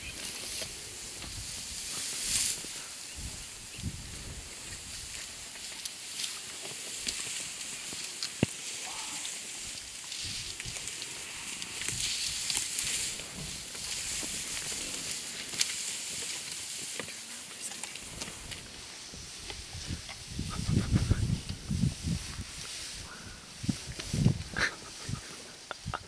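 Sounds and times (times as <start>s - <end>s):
grass rustling and tearing: 0.0s - 26.0s
steady high hiss: 0.0s - 26.0s.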